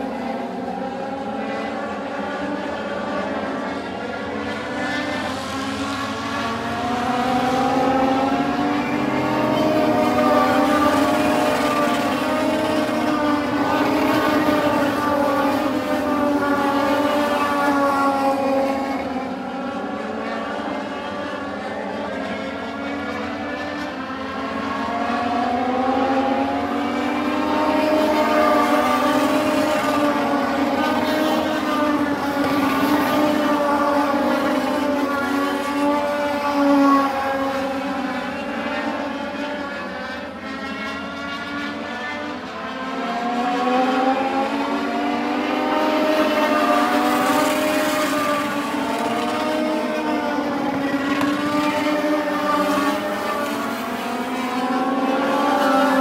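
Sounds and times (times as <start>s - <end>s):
race cars passing at high revs: 0.0s - 56.0s.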